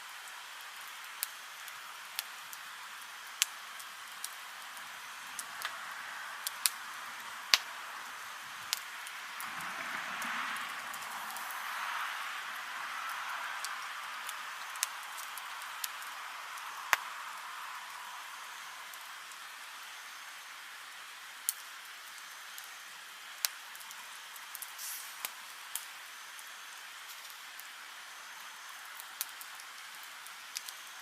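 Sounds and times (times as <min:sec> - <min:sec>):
campfire flames hissing: 0:00.0 - 0:31.0
fire crackles and pops: 0:00.0 - 0:31.0.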